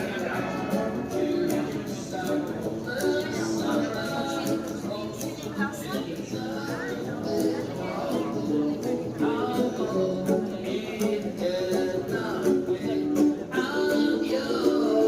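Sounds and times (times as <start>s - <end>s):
person singing: 0.0s - 15.0s
plucked acoustic guitar: 0.0s - 15.0s.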